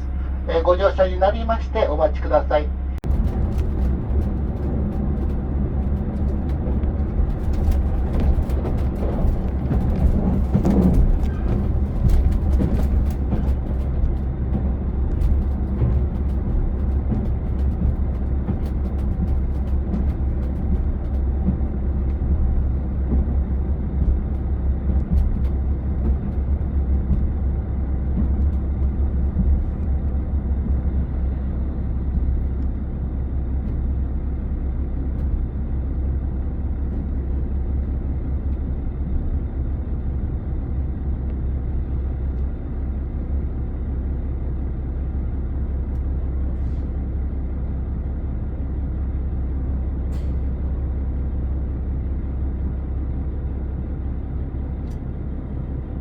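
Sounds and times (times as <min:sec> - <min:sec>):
railcar engine and running gear rumble: 0:00.0 - 0:56.0.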